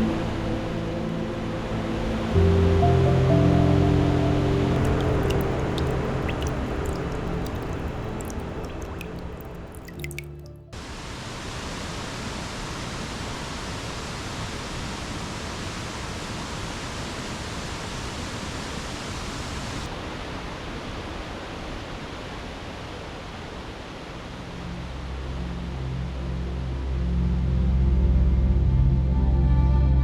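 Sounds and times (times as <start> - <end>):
fast-flowing water rushing: 0.0 - 24.7.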